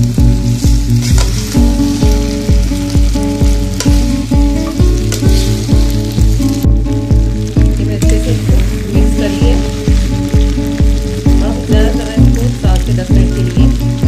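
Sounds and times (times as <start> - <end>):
music with bass beat: 0.0 - 14.0
spaghetti sizzling in oil: 0.0 - 14.0.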